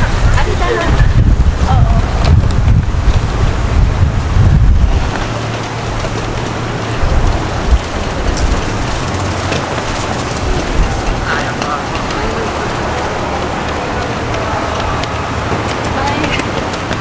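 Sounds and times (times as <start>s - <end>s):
crowd noise: 0.0s - 17.0s
traffic noise: 0.0s - 17.0s
wind on microphone: 0.0s - 17.0s.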